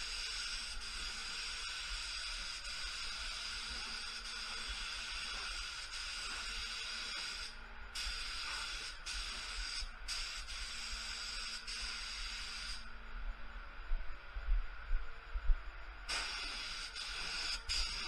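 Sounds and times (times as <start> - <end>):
air spray gun hissing: 0.0 - 12.9, 16.1 - 18.0.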